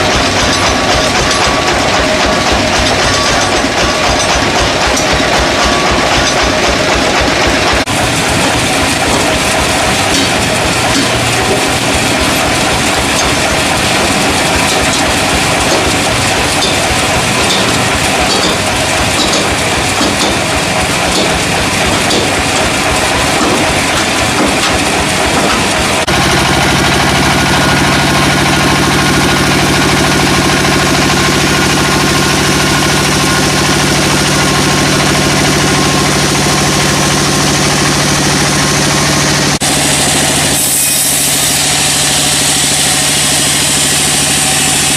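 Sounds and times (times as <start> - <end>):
sawmill machinery rattling: 0.0 - 44.9.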